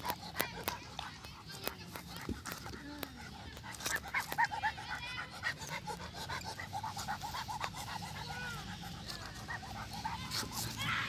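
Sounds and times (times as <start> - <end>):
dog panting rapidly: 0.0 - 11.0.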